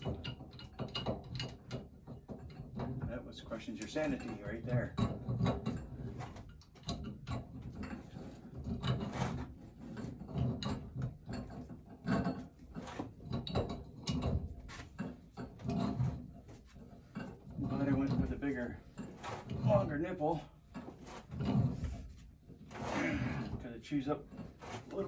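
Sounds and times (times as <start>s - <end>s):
pipe wrench creaks and clicks: 0.0s - 25.0s.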